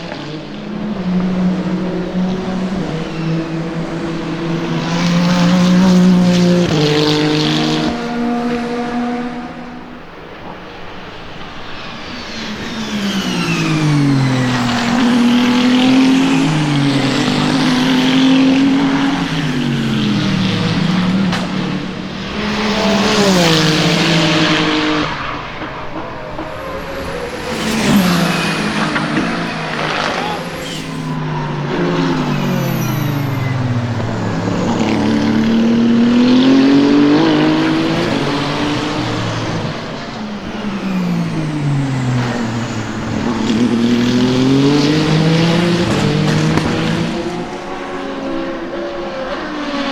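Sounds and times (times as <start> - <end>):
race car engine passing: 0.0 - 49.9.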